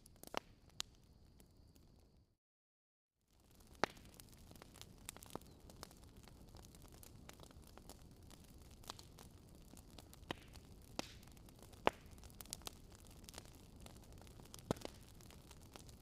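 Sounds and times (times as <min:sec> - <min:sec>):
wood fire crackling: 0:00.0 - 0:02.1, 0:03.3 - 0:16.0.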